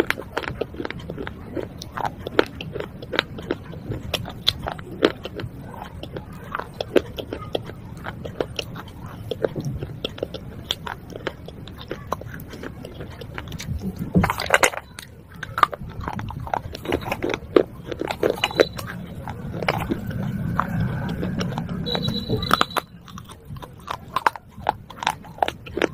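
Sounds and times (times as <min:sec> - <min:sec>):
chewing crunchy shards: 0:00.0 - 0:25.9.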